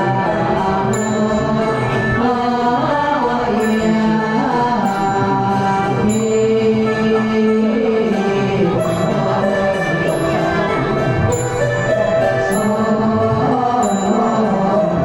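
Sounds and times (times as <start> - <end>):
high ringing notes: 0.0 - 15.0
ritual chanting: 0.0 - 15.0
steady drone: 0.0 - 15.0.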